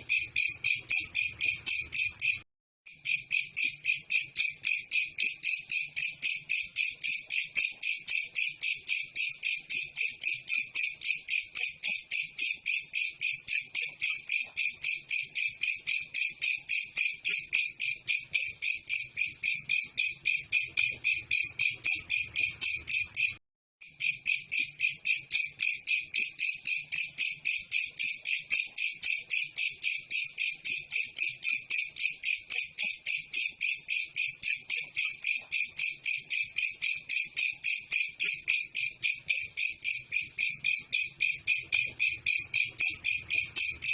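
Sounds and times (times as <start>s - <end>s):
insect chirping: 0.0s - 43.9s.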